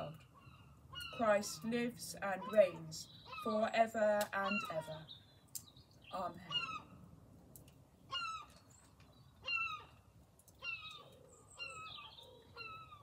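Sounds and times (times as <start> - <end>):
bird calling: 0.0 - 7.0, 8.0 - 13.0.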